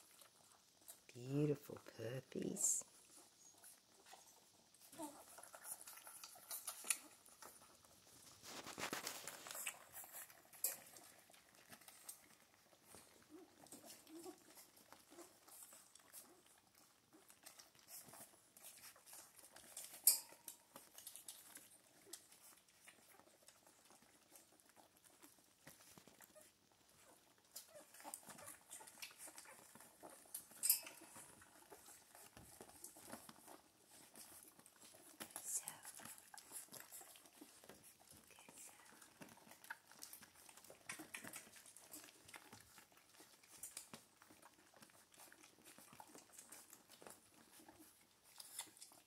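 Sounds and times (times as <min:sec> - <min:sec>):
puppies suckling and rustling: 0:00.0 - 0:49.0.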